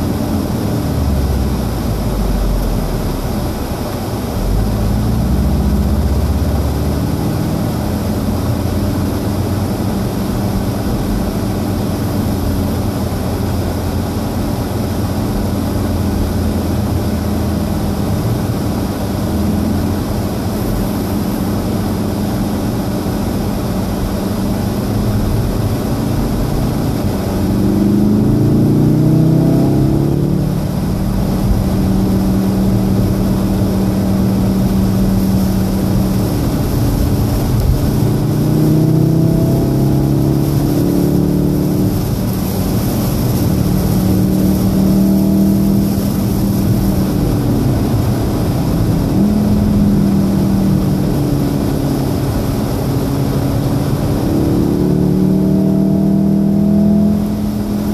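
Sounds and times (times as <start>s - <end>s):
car engine revving: 0.0s - 57.9s
rain and wet tyres hissing: 0.0s - 57.9s.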